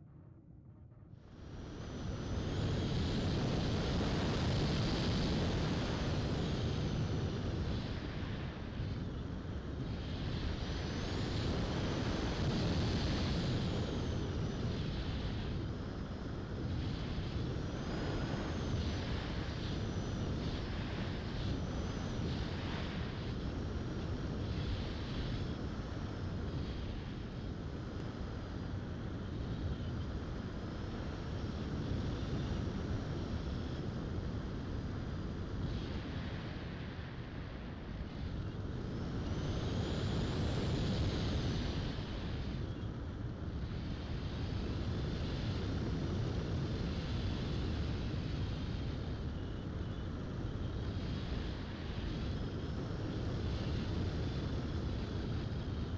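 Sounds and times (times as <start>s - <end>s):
faint high motor whine: 0.0s - 55.9s
wind rushing over camera: 1.3s - 55.9s.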